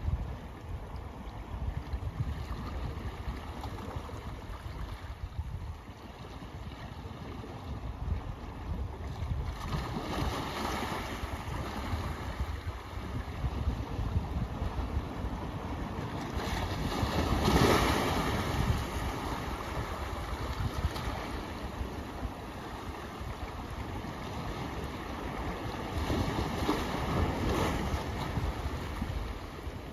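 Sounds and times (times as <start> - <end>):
waves breaking over rocks: 0.2 - 29.9.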